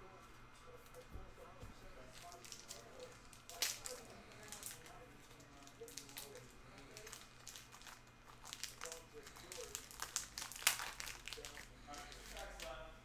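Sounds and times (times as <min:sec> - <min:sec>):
cards being handled: 0:00.8 - 0:12.8
plastic wrappers crinkling: 0:01.9 - 0:12.8.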